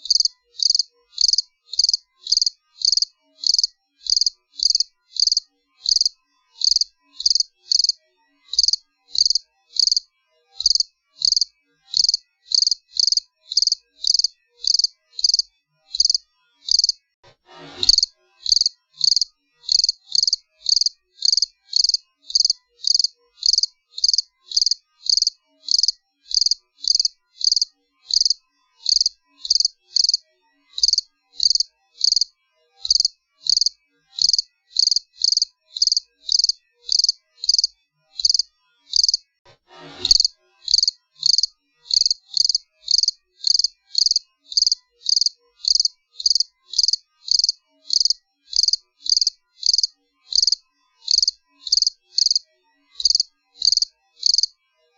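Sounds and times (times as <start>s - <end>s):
cricket chirping: 0.0s - 10.0s, 10.6s - 17.0s, 18.0s - 30.2s, 30.8s - 39.2s, 40.1s - 52.4s, 53.0s - 54.5s.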